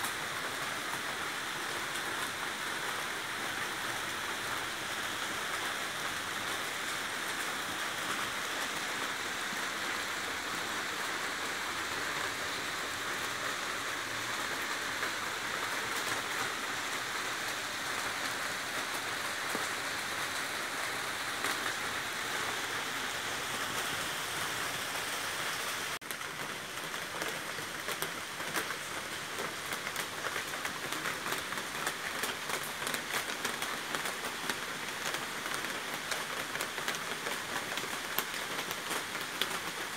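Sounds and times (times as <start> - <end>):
close patter of raindrops: 0.0 - 39.9
steady rain falling: 0.0 - 39.9.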